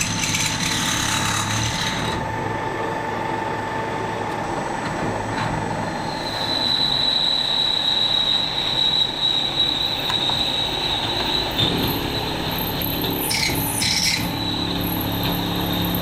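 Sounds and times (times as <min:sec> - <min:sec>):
high-pitched cutting whine: 0:00.0 - 0:16.0
machine running: 0:00.0 - 0:16.0.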